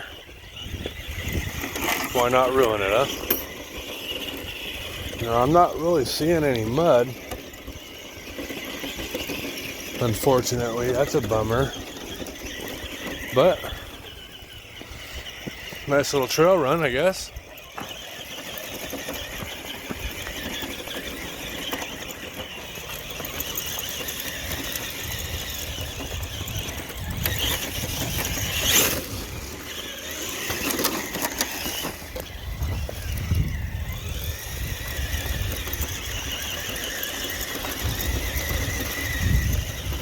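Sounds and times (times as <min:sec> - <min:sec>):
electric motor and gears whining: 0:00.0 - 0:40.0.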